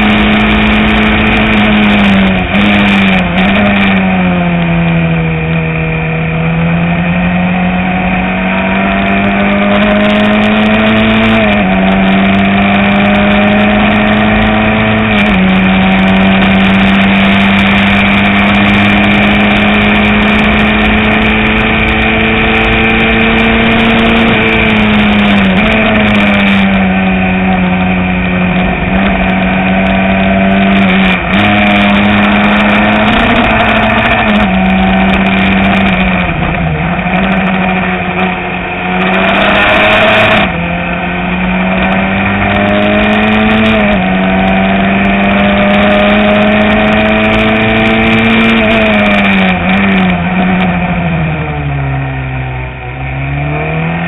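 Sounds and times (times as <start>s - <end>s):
race car engine at full throttle: 0.0s - 54.0s
wind and road noise: 0.0s - 54.0s.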